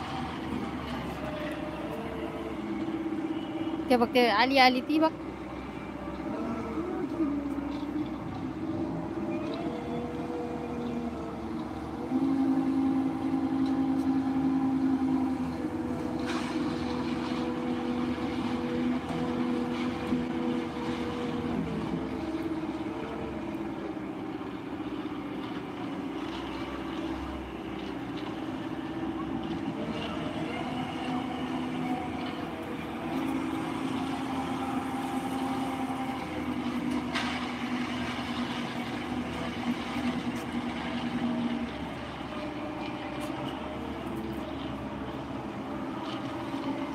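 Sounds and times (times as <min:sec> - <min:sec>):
diesel truck engine droning: 0:00.0 - 0:46.9.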